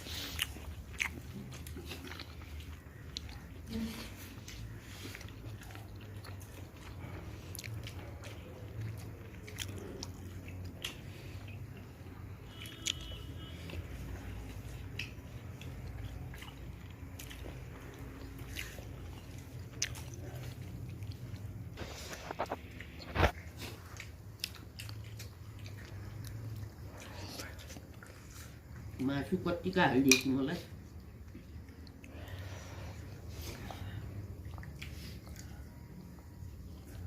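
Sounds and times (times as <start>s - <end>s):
person chewing: 0.0s - 29.0s, 30.8s - 37.0s.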